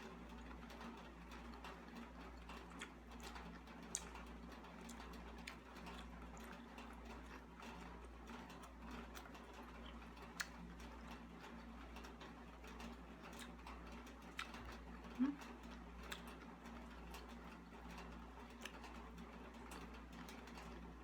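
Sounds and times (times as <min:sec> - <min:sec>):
quiet chewing: 0:00.1 - 0:20.9.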